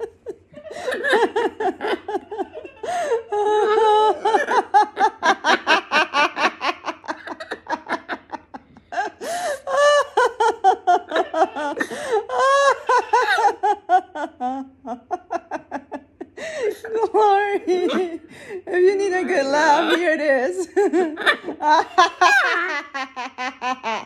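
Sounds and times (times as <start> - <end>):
woman laughing: 0.0 - 24.0.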